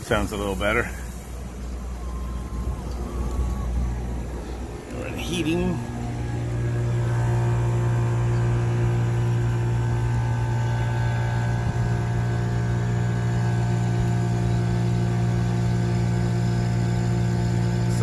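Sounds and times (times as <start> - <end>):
compressor humming: 0.0 - 18.0
faint steady tones: 0.0 - 18.0.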